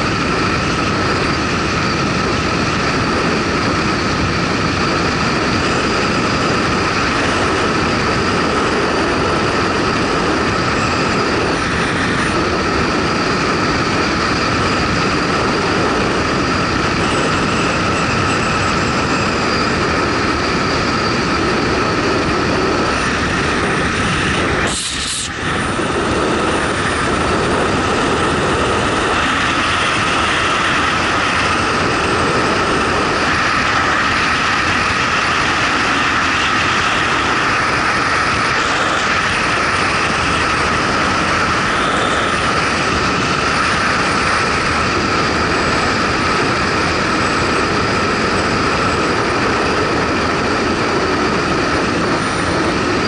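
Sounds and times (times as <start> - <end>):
wind noise: 0.0 - 53.0.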